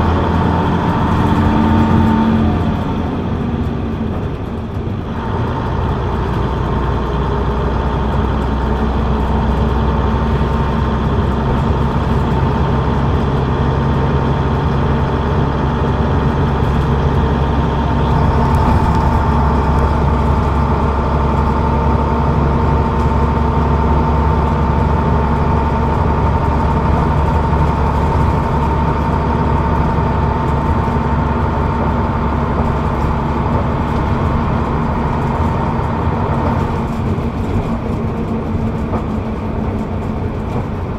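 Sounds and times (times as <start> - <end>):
bus diesel engine drone: 0.0 - 40.9
constant engine whine: 0.0 - 40.9.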